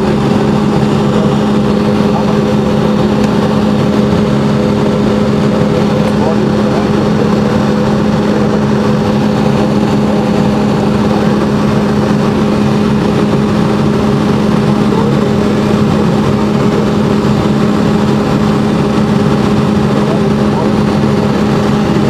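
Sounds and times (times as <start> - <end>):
jet engines roaring in cabin: 0.0 - 22.0.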